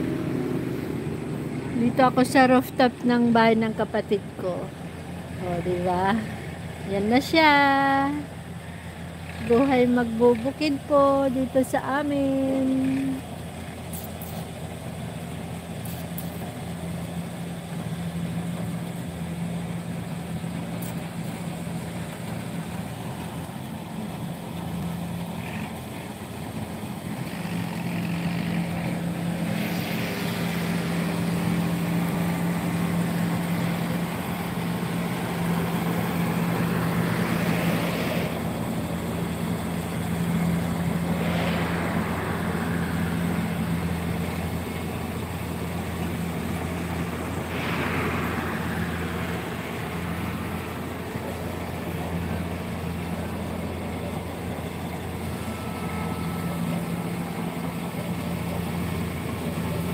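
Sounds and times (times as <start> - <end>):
combine harvester engine humming: 0.0 - 59.9.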